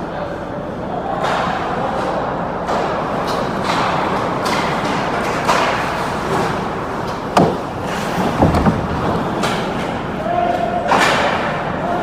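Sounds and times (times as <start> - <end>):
hockey sticks and puck clacking: 1.1 - 11.7.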